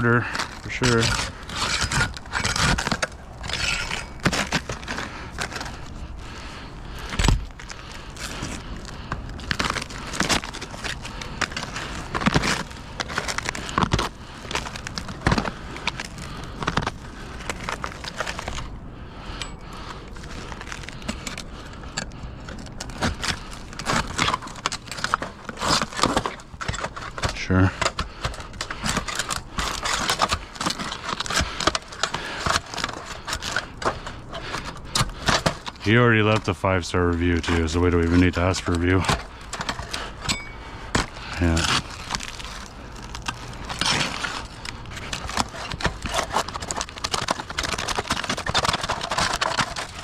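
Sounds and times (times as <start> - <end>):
small hard objects clattering: 0.0 - 18.7, 19.4 - 50.0
low background hum: 0.0 - 50.0.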